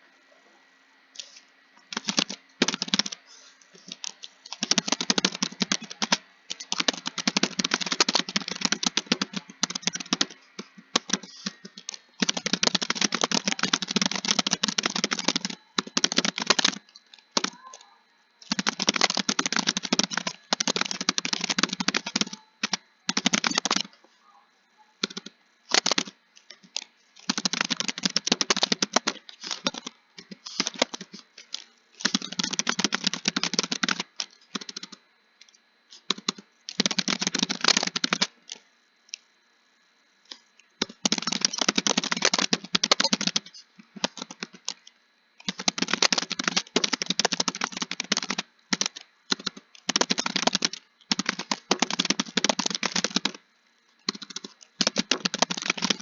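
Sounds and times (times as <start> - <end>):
keyboard typing clicks: 1.9 - 3.2, 3.8 - 24.0, 25.0 - 39.2, 40.3 - 53.4, 54.0 - 56.0.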